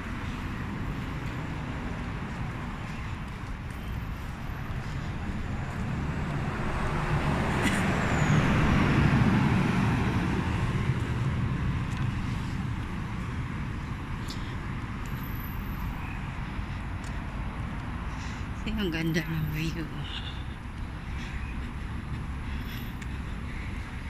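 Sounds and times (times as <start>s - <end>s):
background traffic: 0.0s - 24.0s
vehicle passing: 4.1s - 24.0s.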